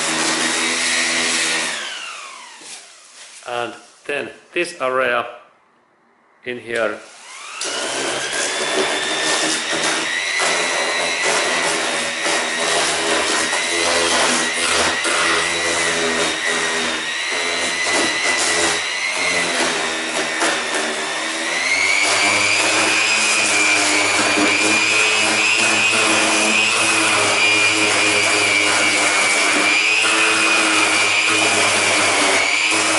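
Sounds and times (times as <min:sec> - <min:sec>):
orbital sander whining: 0:00.0 - 0:03.4, 0:07.0 - 0:32.9.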